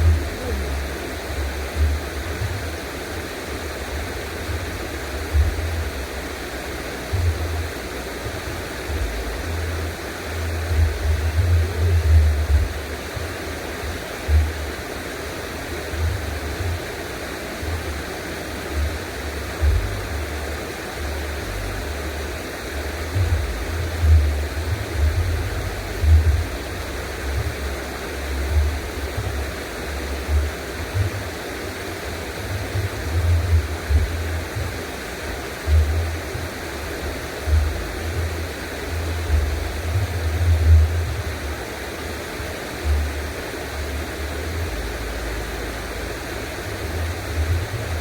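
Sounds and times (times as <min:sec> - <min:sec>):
low rumbles: 0:00.0 - 0:02.8, 0:03.7 - 0:13.4, 0:18.7 - 0:42.2, 0:42.8 - 0:48.0
flowing water rushing: 0:00.0 - 0:48.0.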